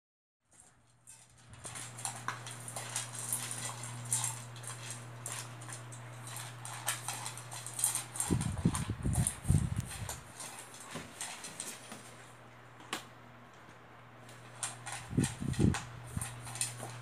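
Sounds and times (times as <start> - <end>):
pets crunching dry food: 0.5 - 17.0.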